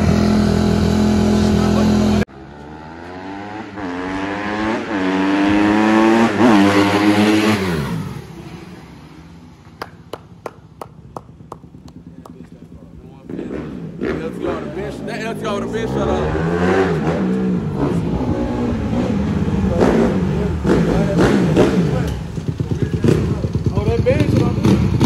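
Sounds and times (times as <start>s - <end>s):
dirt bike engine revving: 0.0s - 8.5s, 13.2s - 25.0s.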